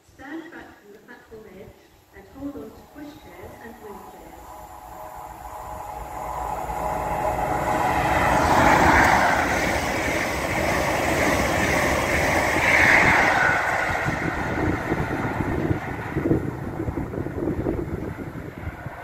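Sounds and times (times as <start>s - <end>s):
diesel train passing at speed: 2.2s - 19.0s
wheels rushing on rails: 2.3s - 19.0s.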